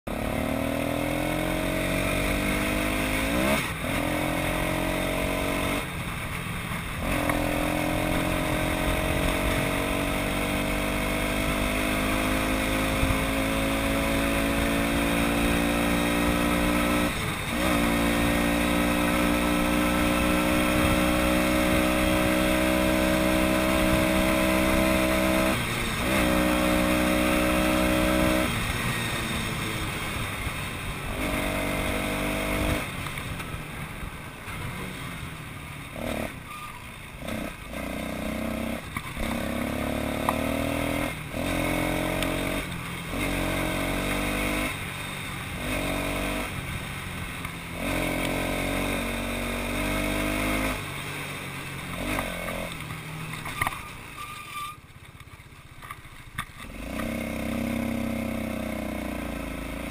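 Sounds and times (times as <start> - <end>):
small vehicle engine revving: 0.1 - 33.6, 34.5 - 54.8, 56.5 - 59.9.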